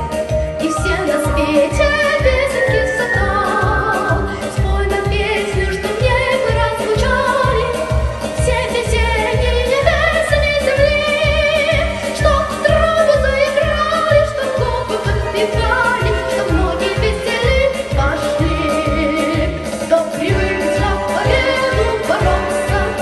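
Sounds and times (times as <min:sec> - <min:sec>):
girl singing: 0:00.6 - 0:07.8, 0:08.4 - 0:23.0.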